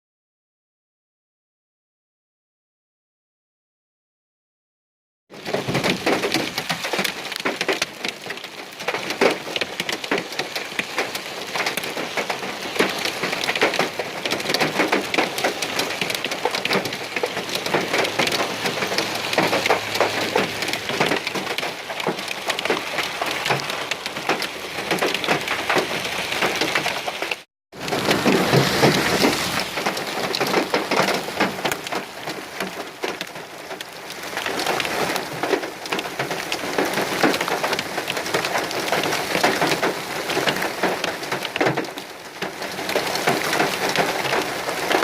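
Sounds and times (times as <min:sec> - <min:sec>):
heavy rain and hail: 0:05.3 - 0:45.0.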